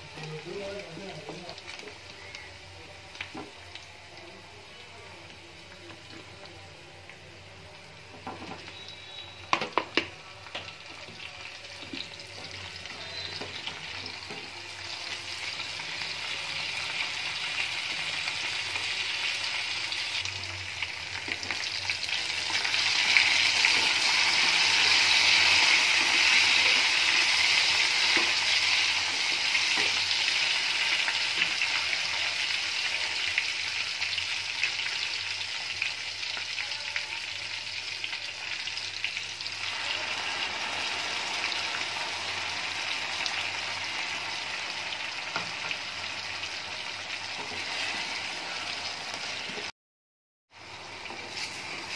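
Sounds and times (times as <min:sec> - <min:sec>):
vegetables sizzling in oil: 0:00.0 - 0:49.7, 0:50.5 - 0:51.9.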